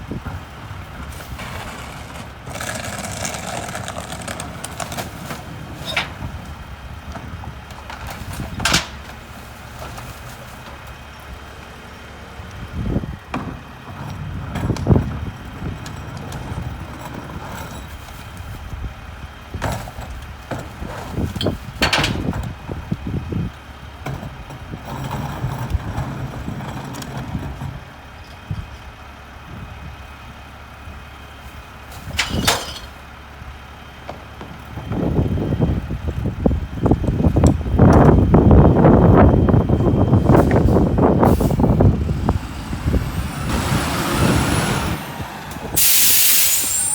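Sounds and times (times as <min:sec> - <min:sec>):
garbage truck diesel engine running: 0:00.0 - 0:46.9.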